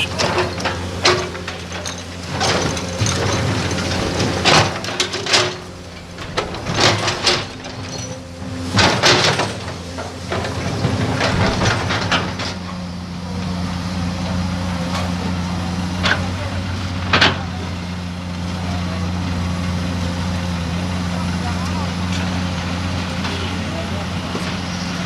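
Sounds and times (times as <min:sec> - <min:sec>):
diesel engine of heavy machinery: 0:00.0 - 0:25.0.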